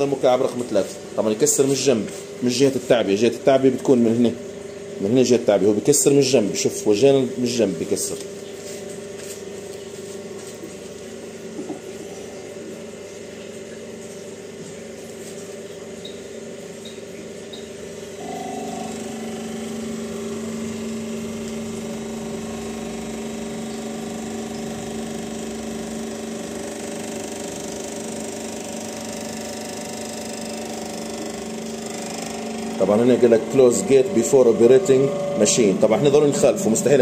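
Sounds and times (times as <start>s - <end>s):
hydraulic pump humming: 0.0s - 37.0s.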